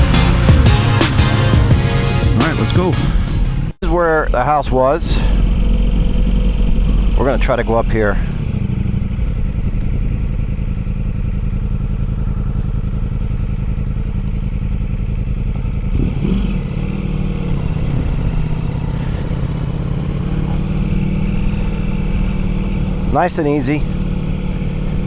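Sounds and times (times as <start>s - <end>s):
motorcycle engine running: 0.0s - 3.8s, 4.5s - 25.0s.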